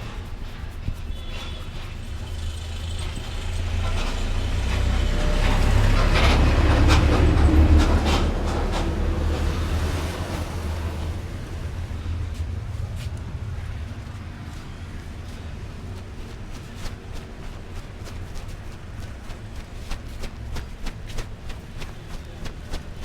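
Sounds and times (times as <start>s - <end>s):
vehicle passing by: 0.5s - 23.0s.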